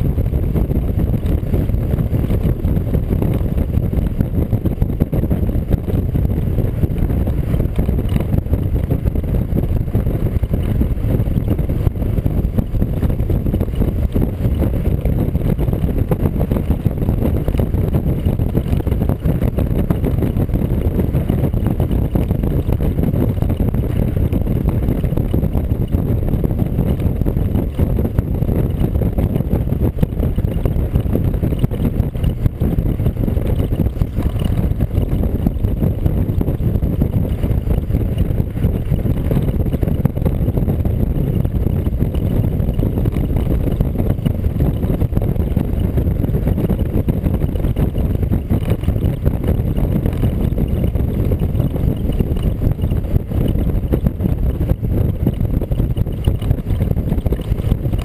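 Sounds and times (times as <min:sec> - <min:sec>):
road rumble: 0:00.0 - 0:58.0
wind rush on microphone: 0:00.0 - 0:58.0.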